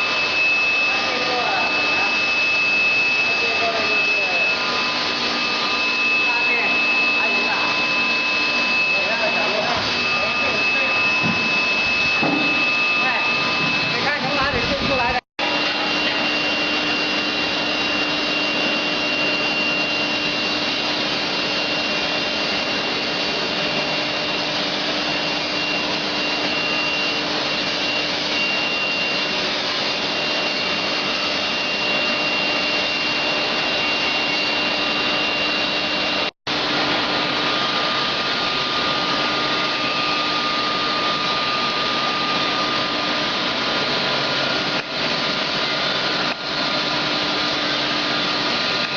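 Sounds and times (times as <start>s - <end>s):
furnace rushing with whine and hum: 0.0s - 48.9s.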